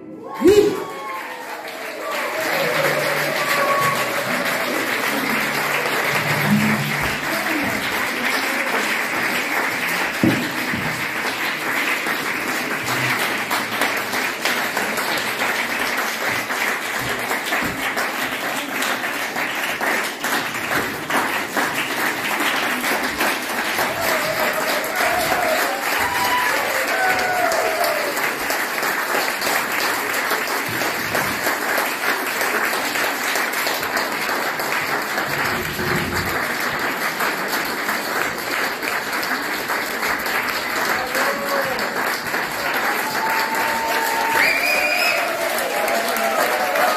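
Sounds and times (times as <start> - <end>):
audience applauding: 0.1 - 46.9.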